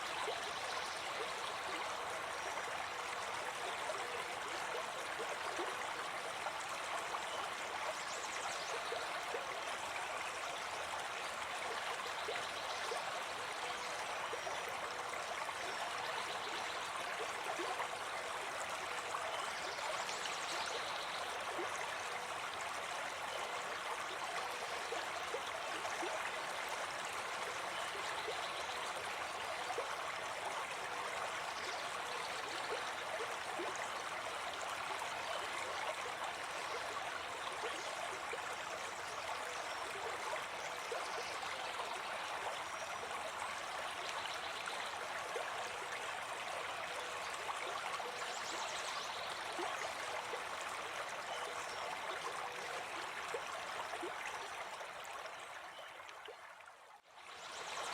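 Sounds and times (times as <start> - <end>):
stream babbling: 0.0 - 57.9.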